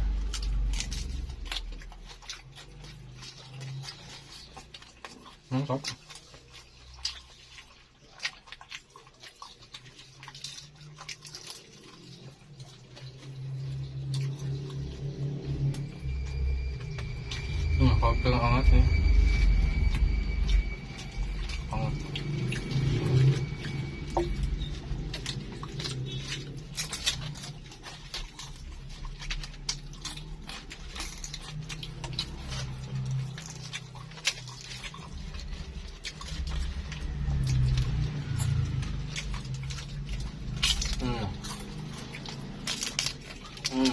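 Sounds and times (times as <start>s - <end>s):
low hum: 0.0s - 4.9s, 11.4s - 43.9s
chewing and crunching: 0.0s - 43.9s.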